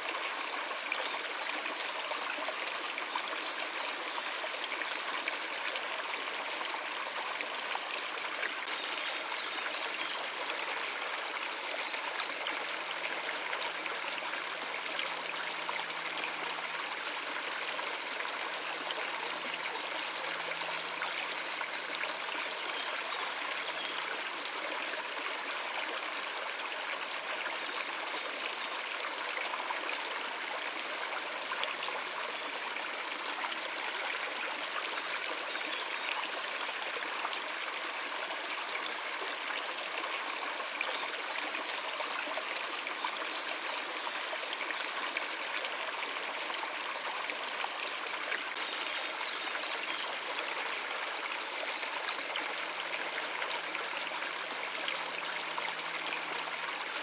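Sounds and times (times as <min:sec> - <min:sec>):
water running over rocks: 0:00.0 - 0:57.0.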